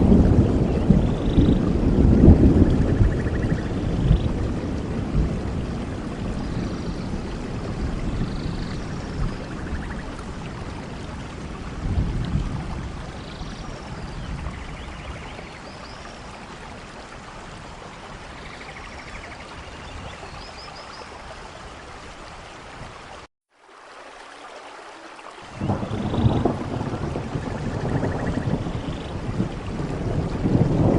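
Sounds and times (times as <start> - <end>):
low rumble of thunder: 0.0 - 20.8, 25.5 - 30.9
steady rain: 0.0 - 30.9.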